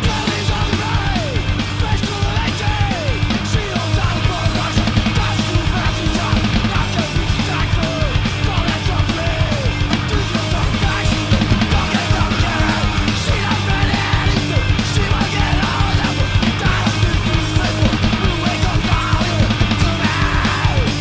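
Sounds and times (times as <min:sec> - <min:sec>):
punk band playing loud: 0:00.0 - 0:21.0.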